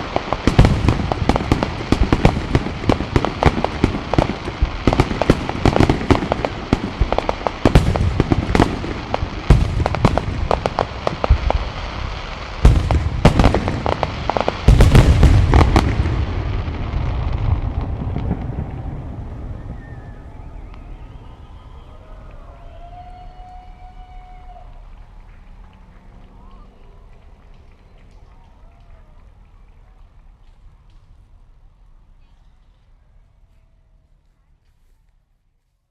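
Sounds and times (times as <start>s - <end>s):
fireworks bangs and crackling: 0.0s - 32.8s.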